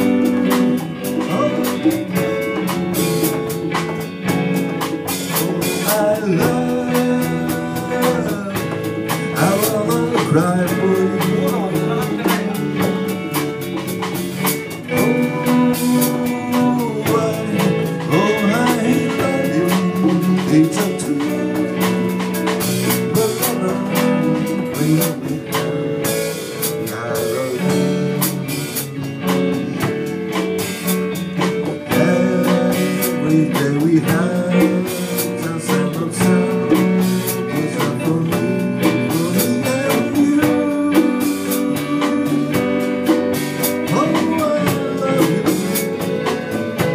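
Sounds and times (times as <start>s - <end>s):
drum kit: 0.0s - 46.9s
electric guitar: 0.0s - 46.9s.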